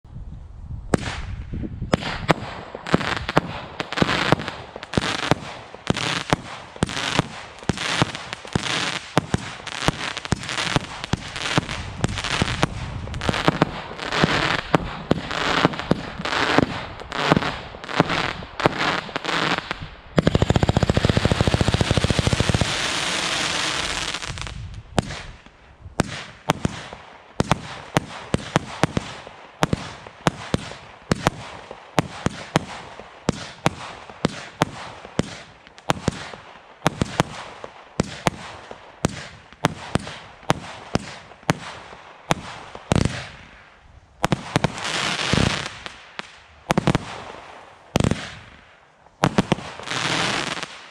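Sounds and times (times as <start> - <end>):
firework shots: 0.9 - 50.9
firework crackling: 1.9 - 50.9.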